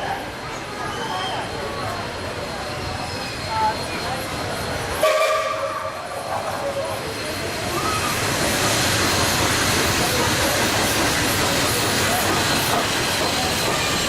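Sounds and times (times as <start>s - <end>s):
faint voices: 0.0s - 14.0s
train rumbling on rails: 0.0s - 14.0s.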